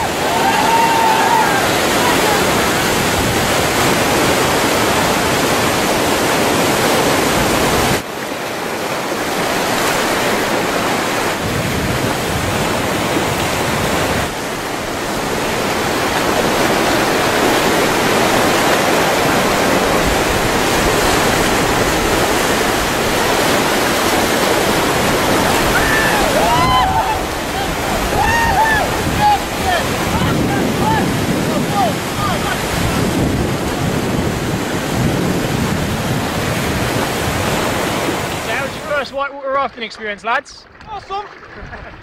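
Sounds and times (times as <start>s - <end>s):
river rapids rushing: 0.0s - 39.1s.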